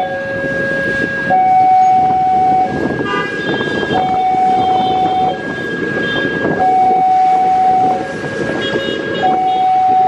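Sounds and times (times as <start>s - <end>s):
two-tone crossing warning alarm: 0.0s - 10.0s.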